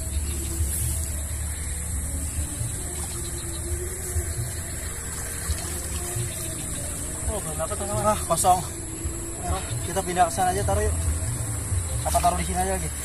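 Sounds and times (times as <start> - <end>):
water trickling and sloshing: 0.0 - 13.0.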